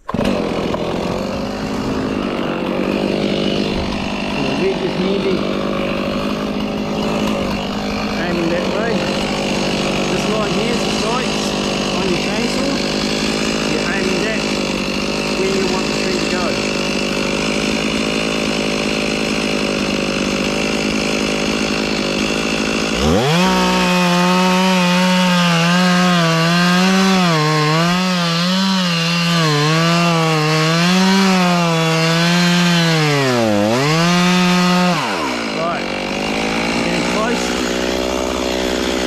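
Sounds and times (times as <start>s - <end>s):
chainsaw cutting tree trunk: 0.0s - 39.0s.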